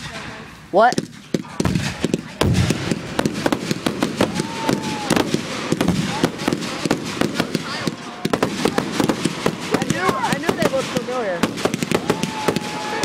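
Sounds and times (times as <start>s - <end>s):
crackling firework pops: 0.9s - 13.0s
heavy firework booms: 0.9s - 13.0s.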